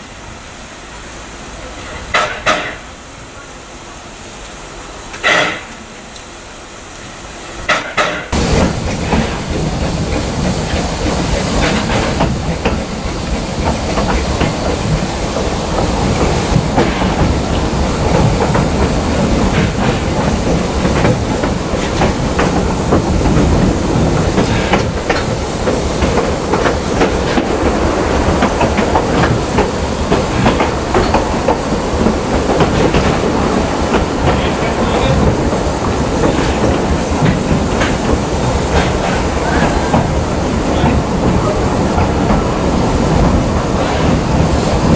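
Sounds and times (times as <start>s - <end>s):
train rumbling: 0.0s - 44.9s
wheels clattering over rail joints: 1.6s - 2.9s, 7.6s - 44.9s.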